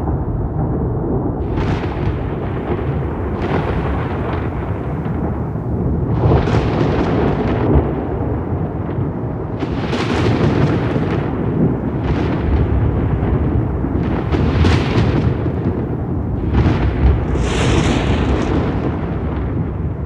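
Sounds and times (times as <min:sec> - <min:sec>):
crackling thunder peals: 0:00.0 - 0:20.0
thunder rumbling: 0:00.0 - 0:20.0.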